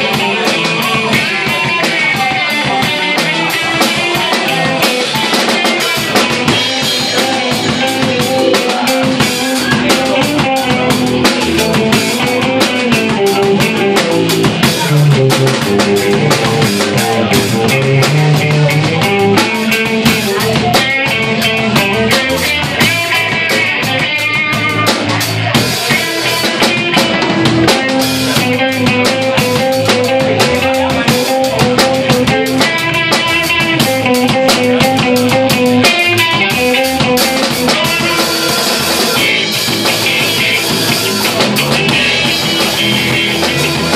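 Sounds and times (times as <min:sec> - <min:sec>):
drum hits: 0:00.0 - 0:43.9
live rock band playing: 0:00.0 - 0:43.9.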